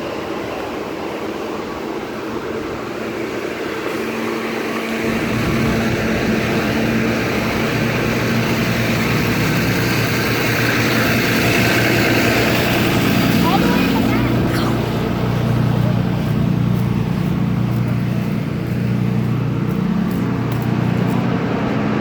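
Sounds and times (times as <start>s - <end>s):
rushing wind: 0.0s - 22.0s
vehicle engine humming: 0.0s - 22.0s.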